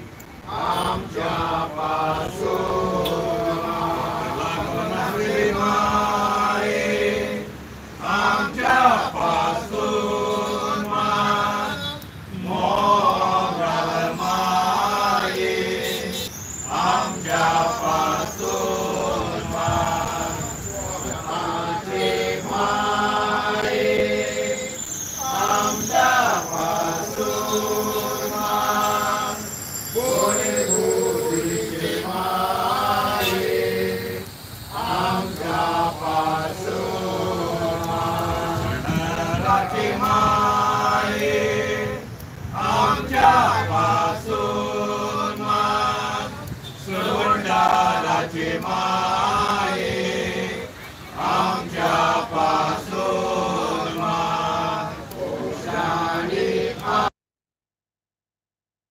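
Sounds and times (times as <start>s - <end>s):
group chanting a prayer: 0.4s - 57.1s.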